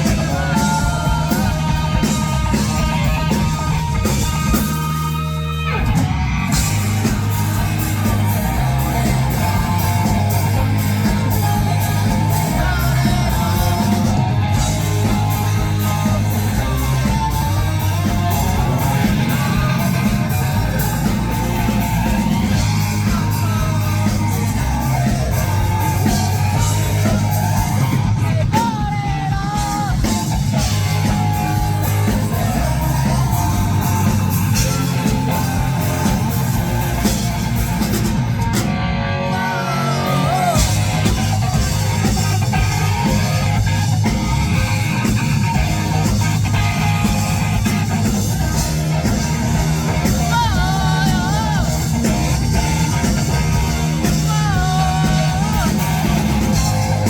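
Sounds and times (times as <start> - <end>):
bass guitar: 0.0 - 57.0
drums: 0.0 - 57.0
electric guitar: 0.0 - 57.0
person singing: 0.0 - 57.0.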